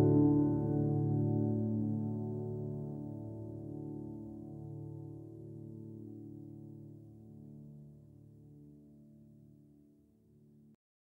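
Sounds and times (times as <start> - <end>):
soft instrumental chord: 0.0 - 10.5.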